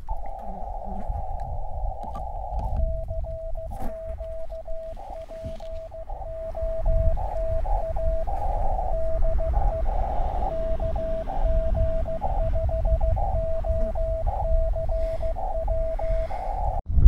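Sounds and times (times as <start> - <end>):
morse code tone: 0.0 - 16.8
radio band hiss: 0.0 - 16.8.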